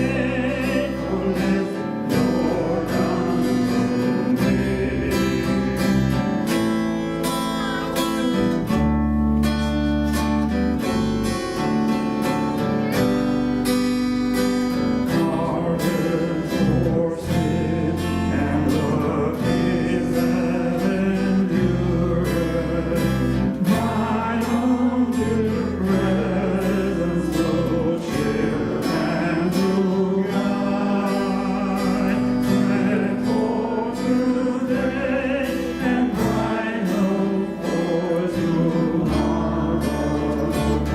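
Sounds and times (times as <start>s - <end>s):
voices singing: 0.0s - 8.6s, 14.7s - 40.9s
bass line: 0.0s - 40.9s
strummed acoustic guitar: 0.0s - 40.9s.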